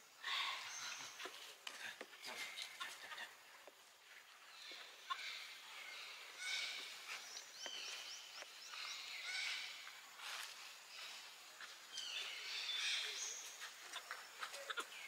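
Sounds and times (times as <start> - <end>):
birds chirping: 0.0 - 15.0
light outdoor hiss: 0.0 - 15.0.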